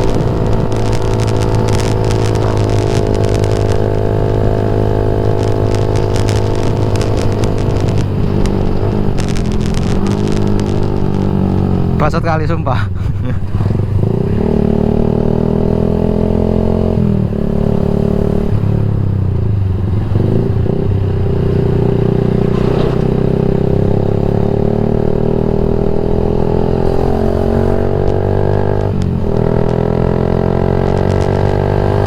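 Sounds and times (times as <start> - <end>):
motorcycle engine running loud: 0.0 - 32.0.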